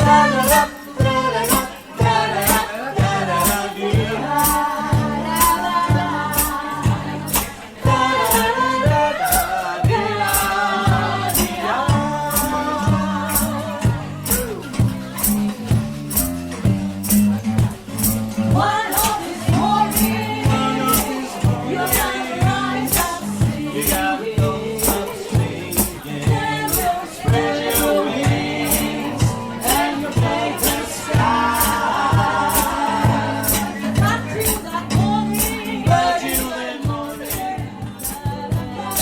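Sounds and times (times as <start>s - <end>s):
hand percussion beat: 0.0s - 39.0s
vocal trio singing: 0.0s - 39.0s.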